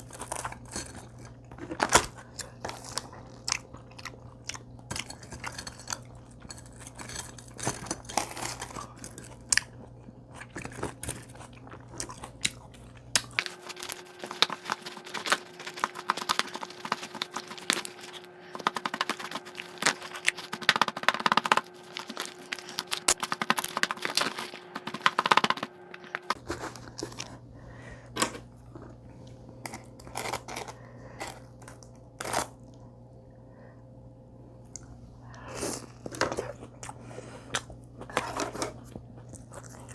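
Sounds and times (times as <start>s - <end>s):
chewing and crunching food: 0.0s - 33.0s, 34.6s - 39.9s
background hum: 0.0s - 39.9s.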